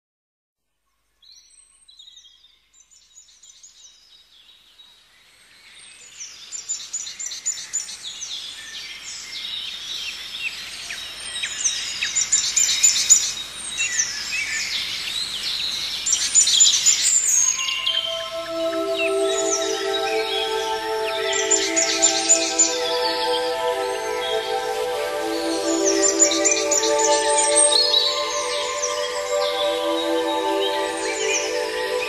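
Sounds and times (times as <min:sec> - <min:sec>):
soft outdoor hiss: 0:00.8 - 0:32.0
birds chirping and trilling: 0:06.1 - 0:32.0.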